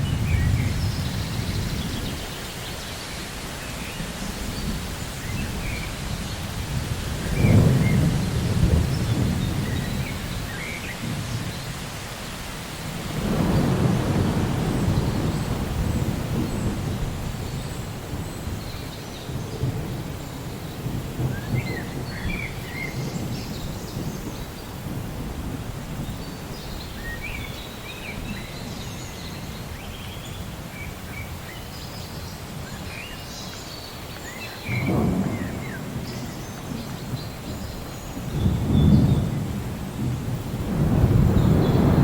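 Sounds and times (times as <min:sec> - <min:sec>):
low rolling thunder: 0:00.0 - 0:02.4, 0:04.1 - 0:11.8, 0:12.8 - 0:29.7, 0:34.6 - 0:42.0
rain hissing: 0:00.0 - 0:42.0.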